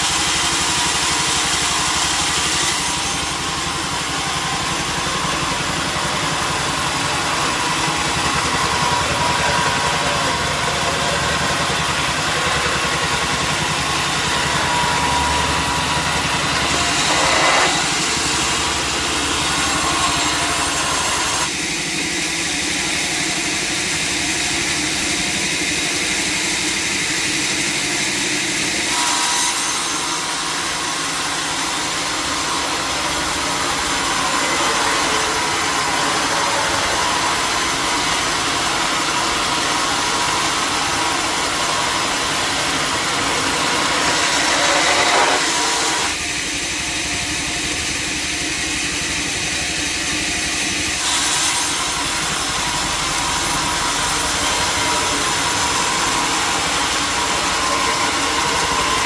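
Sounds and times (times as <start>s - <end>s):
saw blade cutting log: 0.0s - 59.0s
sawmill saw and engine running: 0.0s - 59.0s.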